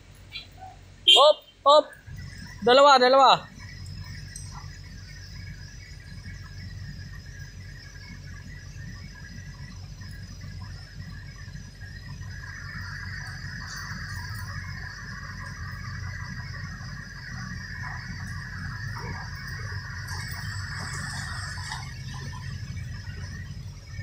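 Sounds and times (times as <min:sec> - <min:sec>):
diesel engine idling: 0:00.0 - 0:24.0
high steady squeal: 0:00.0 - 0:24.0.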